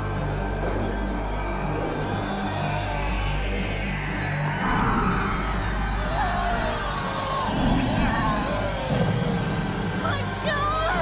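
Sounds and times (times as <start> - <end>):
dramatic film score: 0.0 - 11.0.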